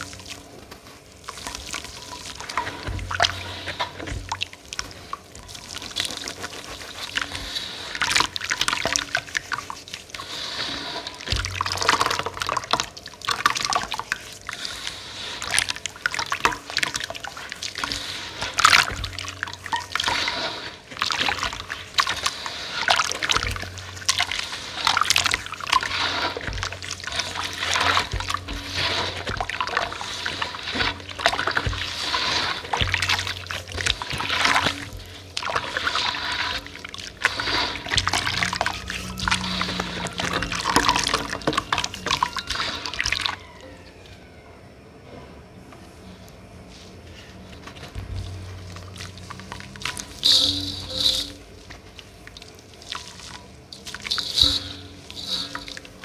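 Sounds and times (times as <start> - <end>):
hands sloshing water in a basin: 0.0 - 43.4, 47.5 - 56.0
water splashing and trickling: 0.0 - 43.4, 47.6 - 56.0.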